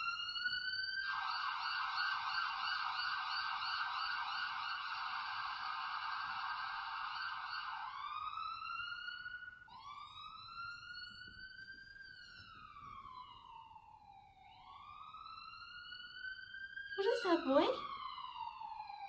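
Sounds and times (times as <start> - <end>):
recorded howling through small speaker: 0.0 - 19.0.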